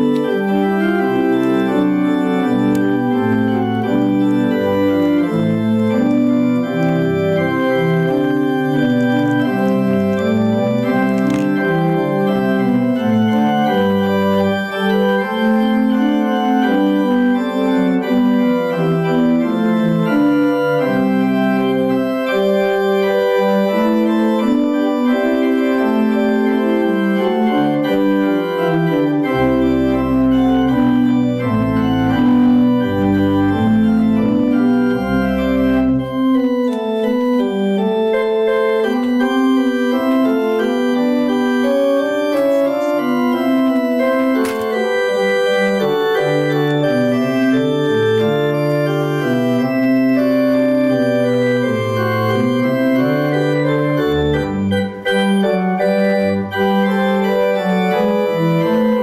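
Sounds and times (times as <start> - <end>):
church organ chords: 0.0 - 59.0
deep organ pedal bass notes: 0.0 - 59.0.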